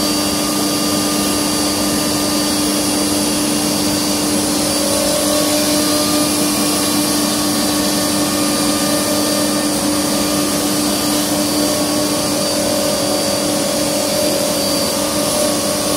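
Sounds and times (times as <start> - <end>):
router spindle whine: 0.0 - 15.9.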